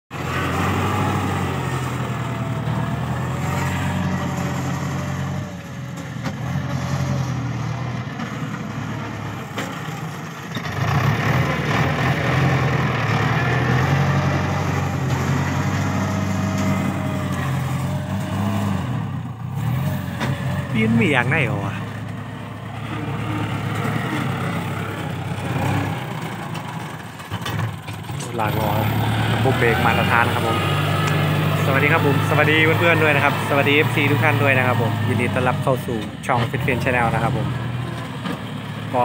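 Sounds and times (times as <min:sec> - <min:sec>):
tractor diesel engine running: 0:00.1 - 0:39.0.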